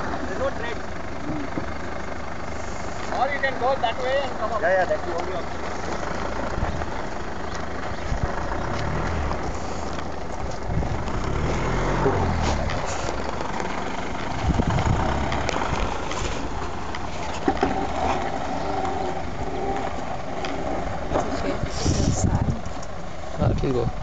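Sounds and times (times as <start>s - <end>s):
diesel engine revving: 0.0s - 24.0s
tyres spinning in dirt: 0.0s - 24.0s.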